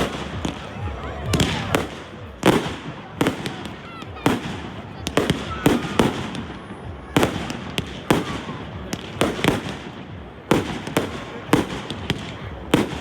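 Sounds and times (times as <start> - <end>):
background rush of noise: 0.0 - 13.0
fireworks bangs: 0.0 - 13.0.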